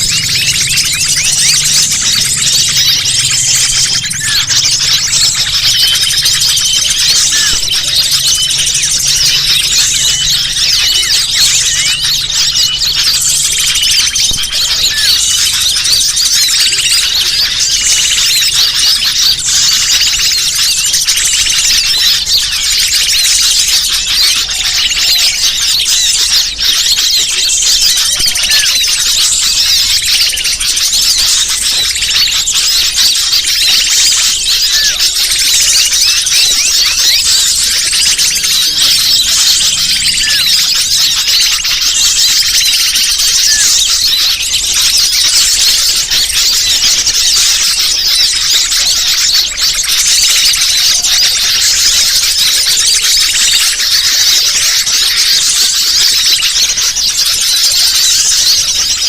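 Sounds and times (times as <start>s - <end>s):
small birds chirping and squeaking: 0.0s - 59.0s.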